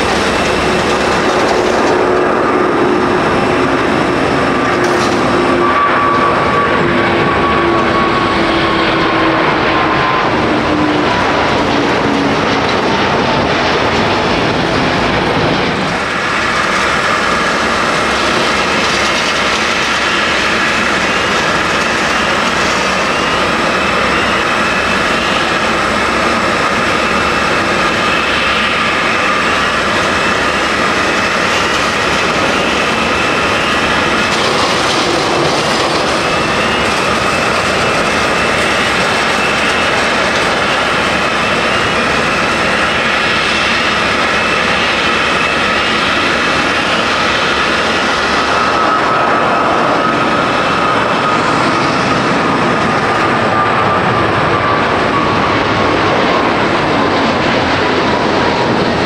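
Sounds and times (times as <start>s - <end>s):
jet engines roaring: 0.0s - 59.0s
jet engines whining: 0.0s - 59.0s.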